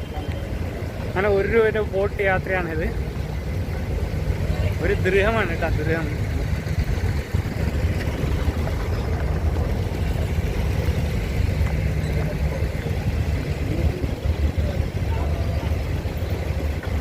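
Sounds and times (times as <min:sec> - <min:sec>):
boat diesel engine rumbling: 0:00.0 - 0:17.0
water wash: 0:02.8 - 0:17.0.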